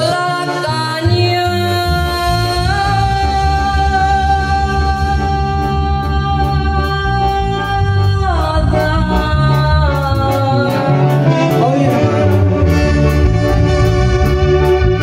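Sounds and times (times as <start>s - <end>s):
keyboard lead bending notes: 0.0s - 15.0s
live band music: 0.0s - 15.0s.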